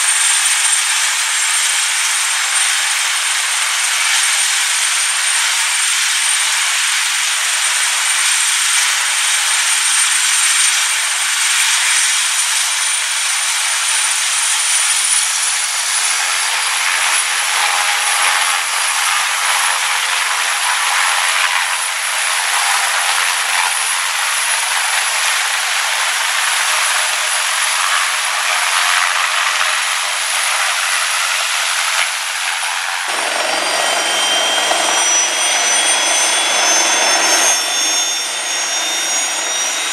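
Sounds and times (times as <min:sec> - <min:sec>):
helicopter rotor and exhaust rush: 0:00.0 - 0:39.9
helicopter turbine engines whining: 0:00.0 - 0:39.9.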